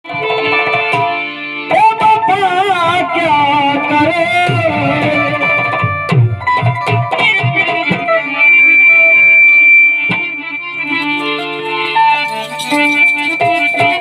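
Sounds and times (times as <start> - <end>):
percussion beats: 0.0 - 14.0
melody with vibrato over held tones: 0.2 - 14.0.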